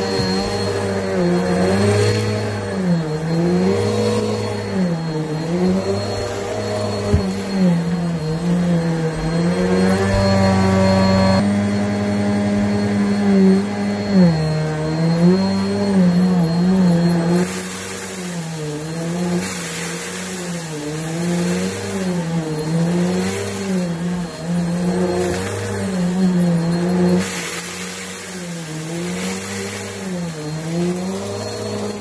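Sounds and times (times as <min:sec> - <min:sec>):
vacuum cleaner motor hum: 0:00.0 - 0:32.0.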